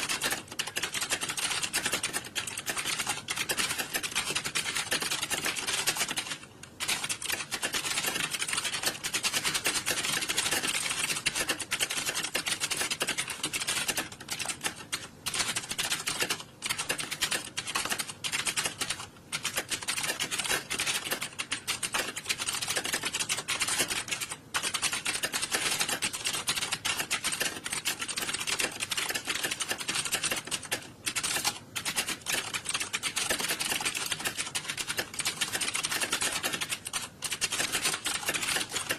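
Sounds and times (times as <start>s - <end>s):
many keyboards clattering: 0.0s - 38.9s.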